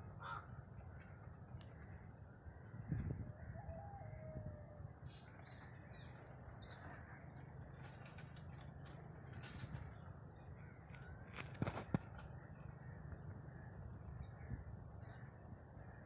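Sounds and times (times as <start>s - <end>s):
drawn-out bird call: 0.0s - 16.0s.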